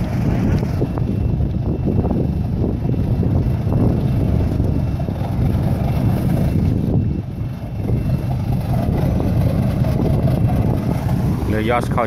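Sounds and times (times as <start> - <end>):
boat engines rumbling: 0.0 - 12.0
wind buffeting microphone: 0.0 - 12.0.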